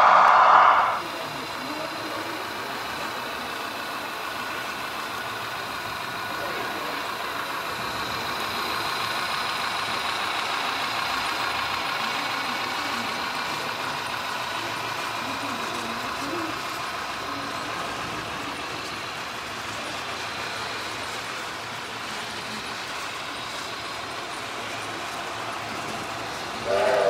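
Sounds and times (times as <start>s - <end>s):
model locomotive motor whine: 0.0s - 27.0s
wheels rumbling on track: 0.0s - 27.0s.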